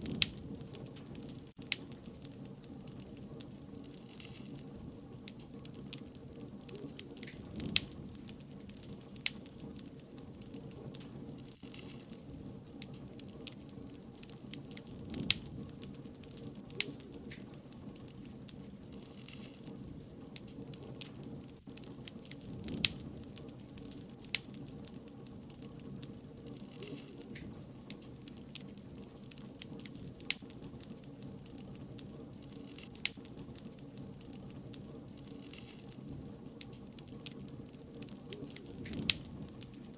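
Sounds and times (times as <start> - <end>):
bonfire flames rushing: 0.0 - 39.9
fire crackling and popping: 0.0 - 39.9.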